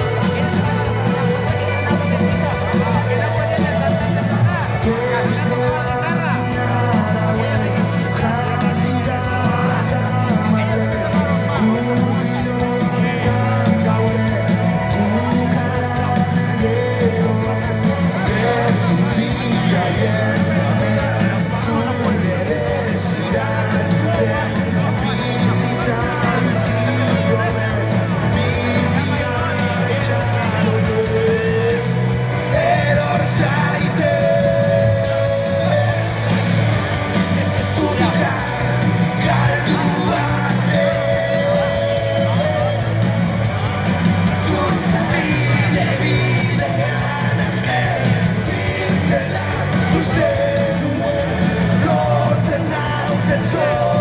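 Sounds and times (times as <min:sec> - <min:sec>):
drums keeping a beat: 0:00.0 - 0:54.0
lead singer singing: 0:00.0 - 0:54.0
live rock band playing: 0:00.0 - 0:54.0.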